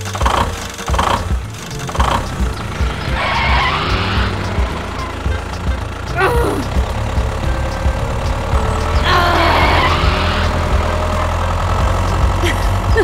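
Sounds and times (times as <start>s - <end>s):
tractor engine running: 0.0s - 13.0s
rough rushing noise: 0.6s - 12.4s
falling whine: 1.2s - 12.8s.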